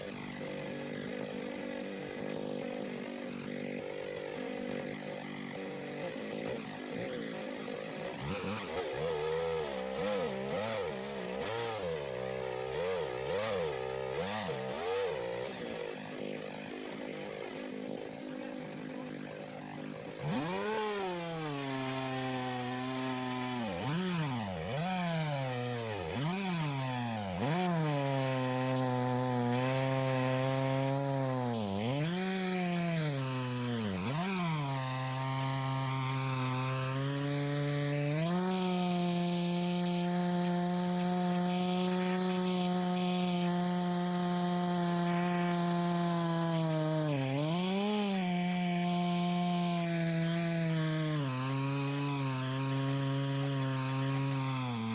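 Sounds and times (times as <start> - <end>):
chainsaw ripping log: 0.0 - 54.9.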